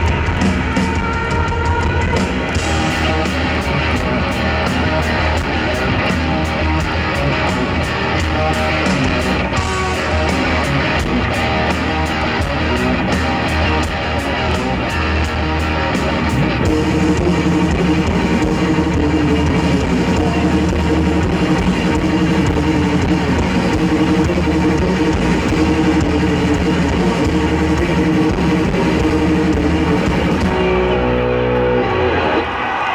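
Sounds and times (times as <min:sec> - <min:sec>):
electric guitar: 0:00.0 - 0:32.9
live rock band playing: 0:00.0 - 0:32.9.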